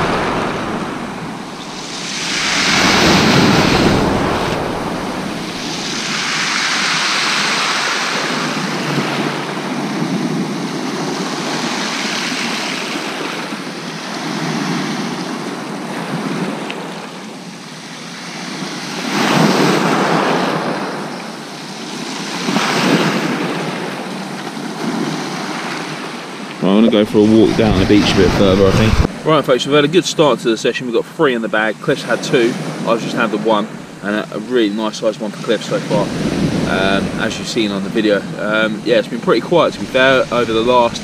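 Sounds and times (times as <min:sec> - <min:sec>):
waves breaking on shingle beach: 0:00.0 - 0:17.2, 0:17.9 - 0:30.3, 0:31.6 - 0:41.0.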